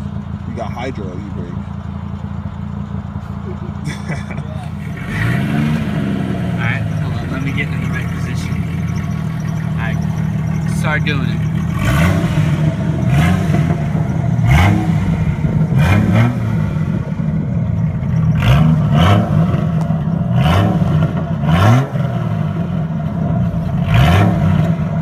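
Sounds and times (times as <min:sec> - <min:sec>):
car engine revving in throttle blips: 0:02.4 - 0:25.0.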